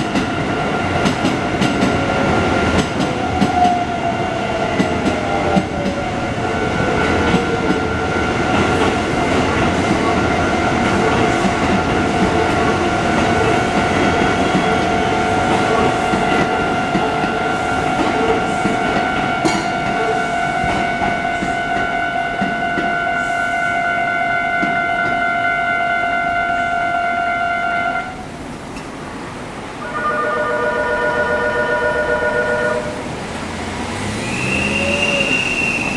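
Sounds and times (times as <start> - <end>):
train rumble and wheel clatter: 0.0 - 35.9.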